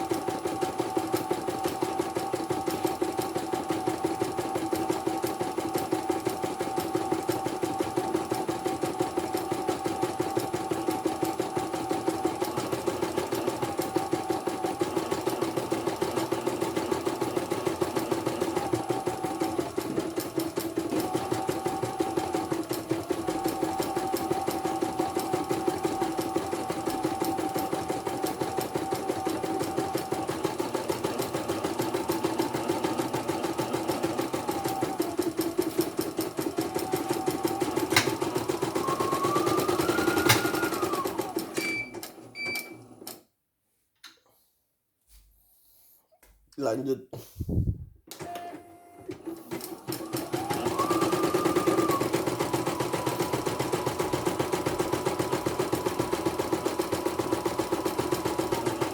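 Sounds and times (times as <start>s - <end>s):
embroidery machine stitching: 0.0s - 43.2s, 48.1s - 58.9s.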